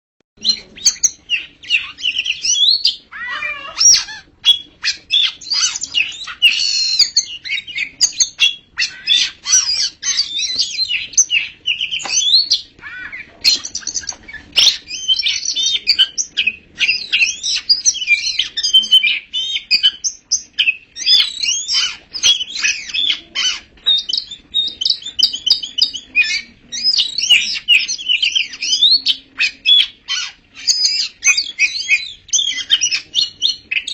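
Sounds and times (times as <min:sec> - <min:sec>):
bird singing whistles and trills: 0:00.4 - 0:03.0, 0:03.8 - 0:33.9.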